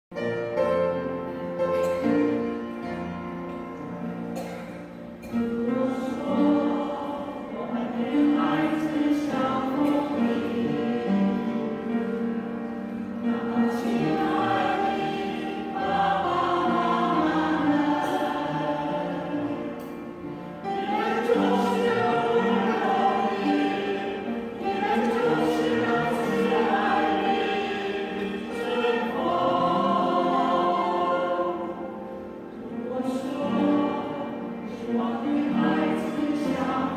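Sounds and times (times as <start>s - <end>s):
choir singing: 4.3s - 36.9s.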